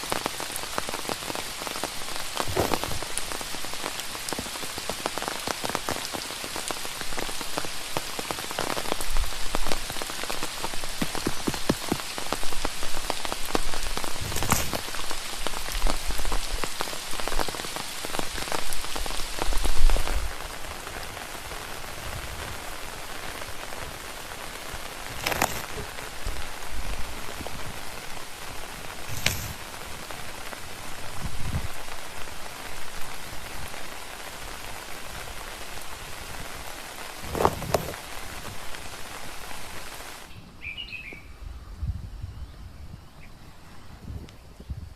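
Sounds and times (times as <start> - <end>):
raindrops dripping close by: 0.0 - 41.2
steady rain: 0.0 - 44.9.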